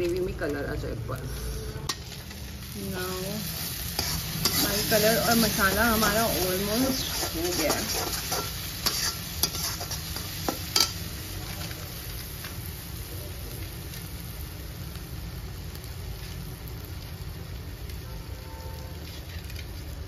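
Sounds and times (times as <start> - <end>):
masala sizzling in a pan: 0.0 - 20.0.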